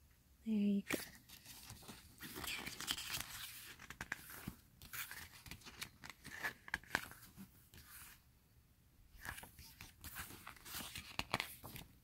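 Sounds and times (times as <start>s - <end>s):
paper pages rustling: 0.9s - 8.2s, 9.2s - 12.0s.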